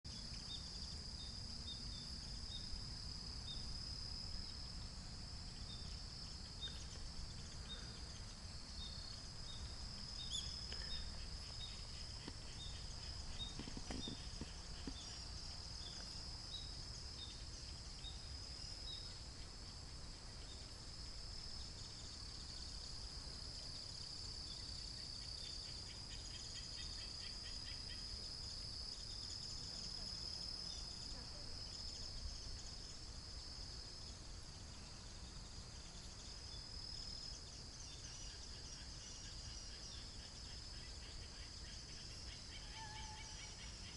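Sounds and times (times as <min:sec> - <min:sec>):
insects trilling and chirping: 0:00.1 - 0:43.9.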